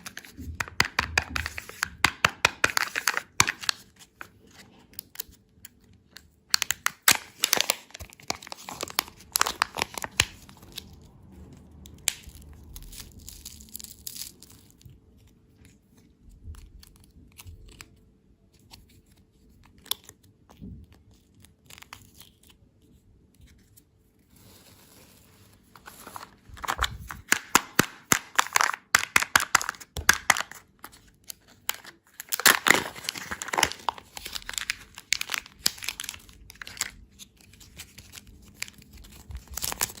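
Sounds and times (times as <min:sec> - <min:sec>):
candy wrappers crinkling: 0:00.0 - 0:40.0.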